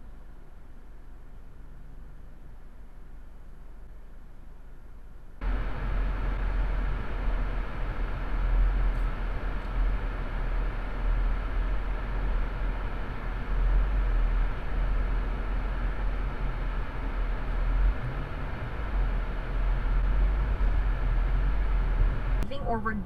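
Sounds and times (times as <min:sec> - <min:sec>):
road and engine rumble in car: 0:00.0 - 0:23.0.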